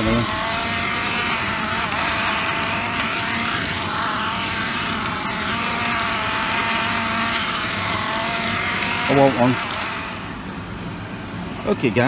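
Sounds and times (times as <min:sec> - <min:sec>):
toy car electric motor whirring: 0:00.0 - 0:10.6.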